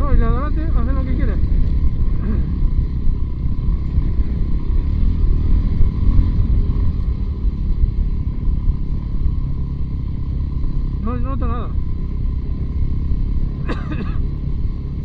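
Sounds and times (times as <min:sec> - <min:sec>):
wind rumble on microphone: 0:00.0 - 0:13.0
motorcycle engine: 0:00.0 - 0:15.0.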